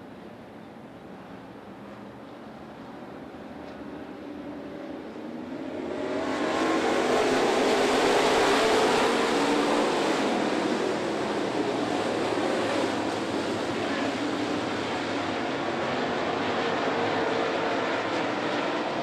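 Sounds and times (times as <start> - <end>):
race car engines running hard: 1.0 - 19.0.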